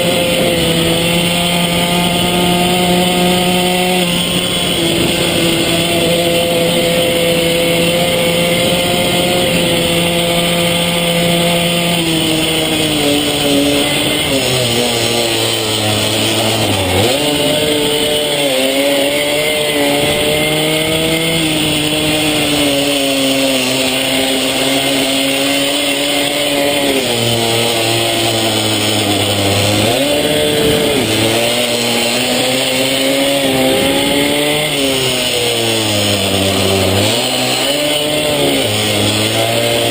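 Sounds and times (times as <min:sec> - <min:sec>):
small motorbike engine ridden hard: 0:00.0 - 0:39.9.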